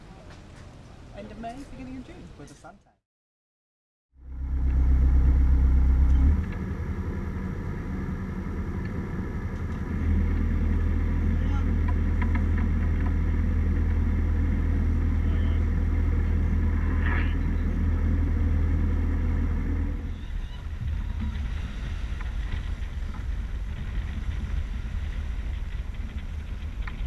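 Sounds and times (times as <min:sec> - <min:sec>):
boat diesel engine humming: 0:04.2 - 0:27.0
wind on microphone: 0:04.6 - 0:27.0.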